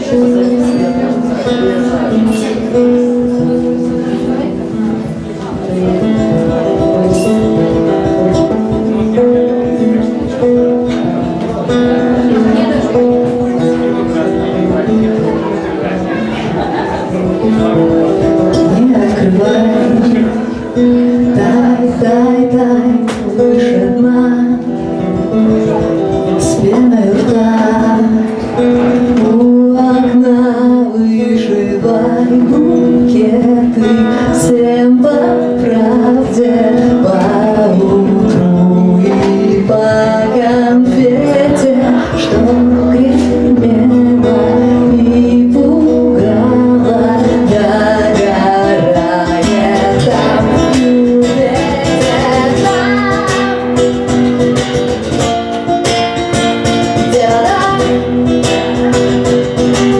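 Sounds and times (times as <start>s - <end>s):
acoustic guitar: 0.0s - 59.9s.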